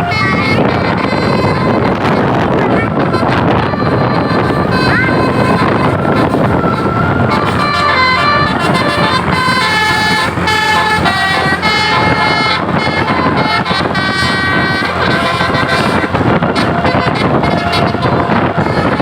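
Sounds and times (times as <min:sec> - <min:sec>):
bus horn playing a tune: 0:00.0 - 0:19.0
vehicle and outdoor noise: 0:00.0 - 0:19.0.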